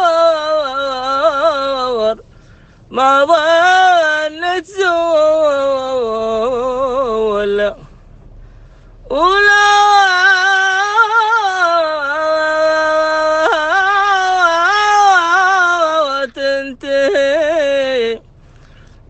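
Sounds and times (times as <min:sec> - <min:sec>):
man singing unaccompanied: 0:00.0 - 0:02.2, 0:02.9 - 0:07.9, 0:09.1 - 0:18.3.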